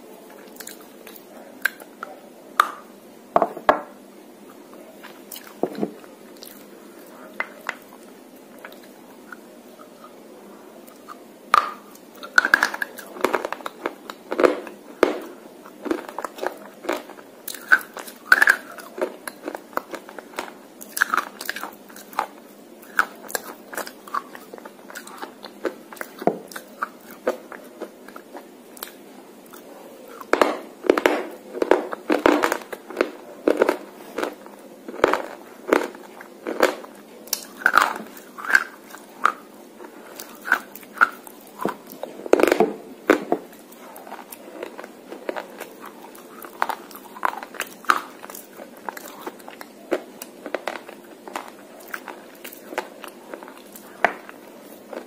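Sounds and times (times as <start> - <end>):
chewing crunches: 10.9 - 55.0.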